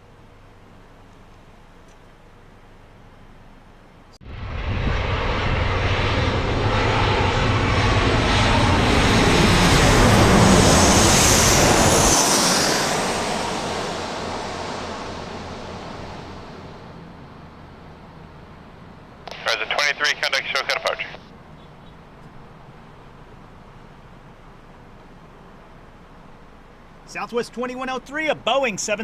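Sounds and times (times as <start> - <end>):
jet engines taking off: 4.2 - 29.0.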